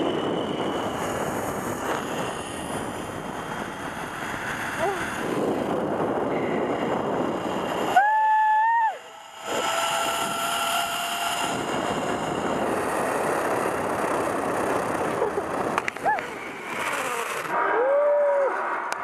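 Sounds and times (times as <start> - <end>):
pulley whine: 0.0 - 19.0
zip-line trolley on cable: 0.0 - 19.0.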